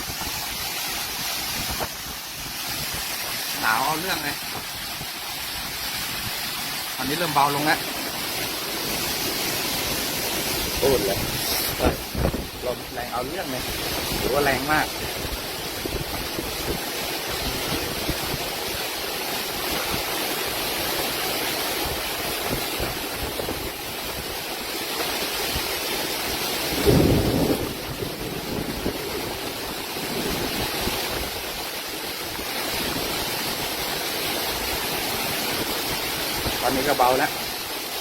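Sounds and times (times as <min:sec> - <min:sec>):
strong wind: 0:00.0 - 0:37.7
storm rain: 0:00.0 - 0:38.0.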